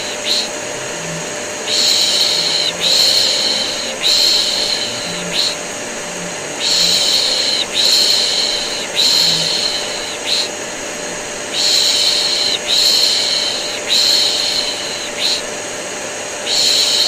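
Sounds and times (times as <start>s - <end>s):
person shushing: 0.0s - 15.5s
vacuum cleaner drone: 0.0s - 17.0s.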